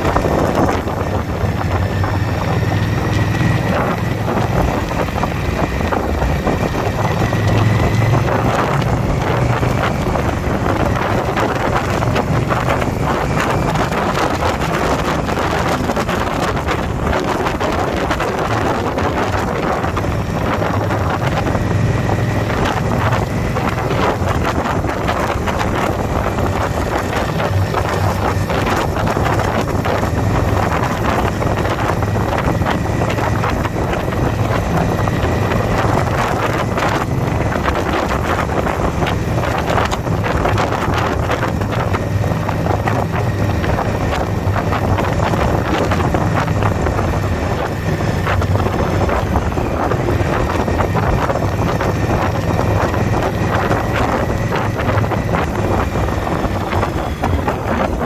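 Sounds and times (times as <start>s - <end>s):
motorcycle engine drone: 0.0s - 58.0s
wind rushing over microphone: 0.0s - 58.0s.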